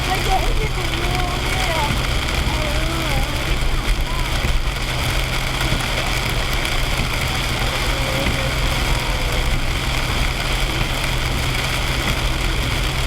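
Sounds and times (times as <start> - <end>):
engine and road noise hum: 0.0 - 13.0
heavy rain on car: 0.0 - 13.0.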